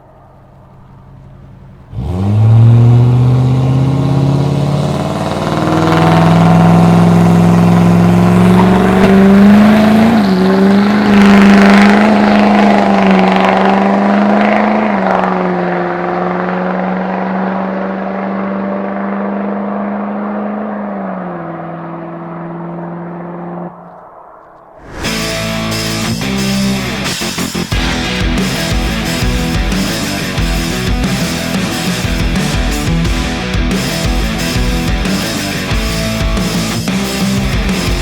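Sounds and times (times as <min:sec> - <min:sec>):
diesel truck engine accelerating: 0:00.0 - 0:24.1, 0:25.1 - 0:38.0.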